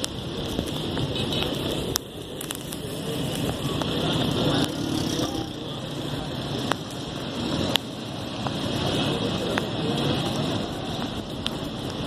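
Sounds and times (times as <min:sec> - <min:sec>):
vehicles on wet roads: 0:00.0 - 0:12.0.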